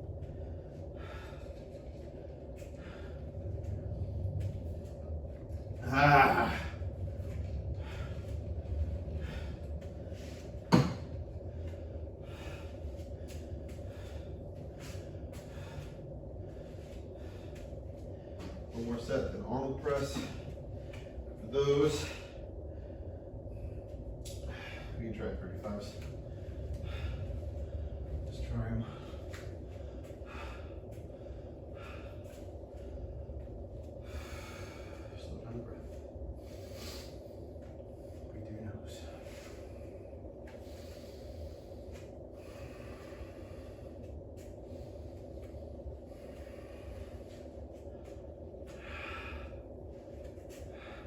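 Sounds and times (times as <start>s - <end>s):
person breathing hard: 0.0s - 38.3s, 38.9s - 51.0s
steady low hum: 0.0s - 51.0s.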